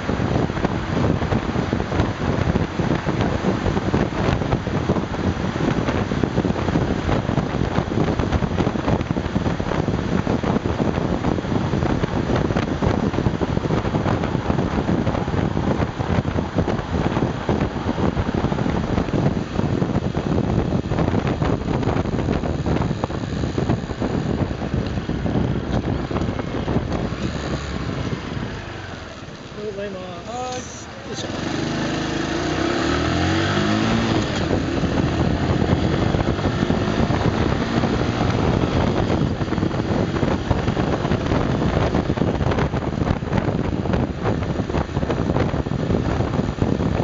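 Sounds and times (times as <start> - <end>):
motorcycle engine running: 0.0 - 47.0
wind buffeting on microphone: 0.0 - 47.0.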